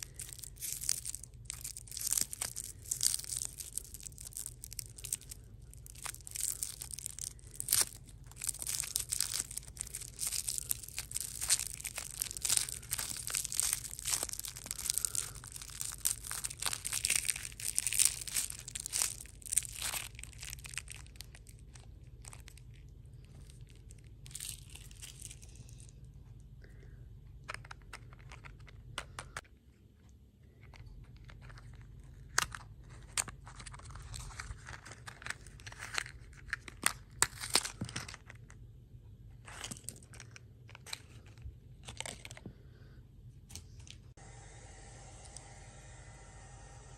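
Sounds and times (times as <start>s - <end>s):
candy wrapper crinkling and tearing: 0.0s - 26.8s, 27.4s - 29.4s, 30.5s - 42.8s
steady low hum: 0.0s - 46.9s.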